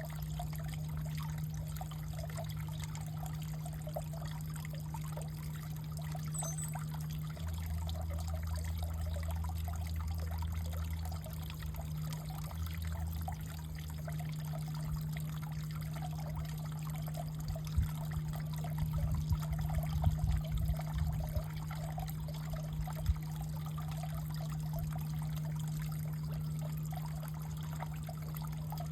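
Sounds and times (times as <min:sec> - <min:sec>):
steady low hum: 0:00.0 - 0:28.9
water trickling: 0:00.0 - 0:28.9.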